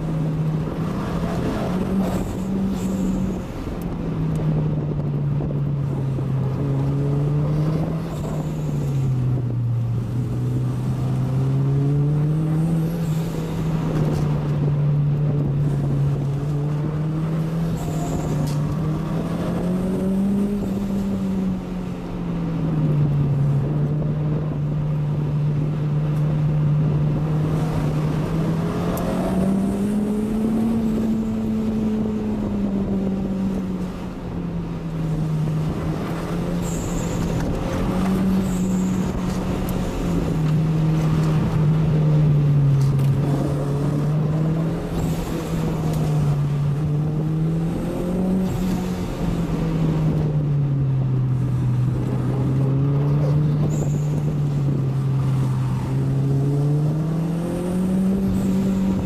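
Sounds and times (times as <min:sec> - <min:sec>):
car engine running: 0:00.0 - 0:59.0
road noise: 0:00.0 - 0:59.0.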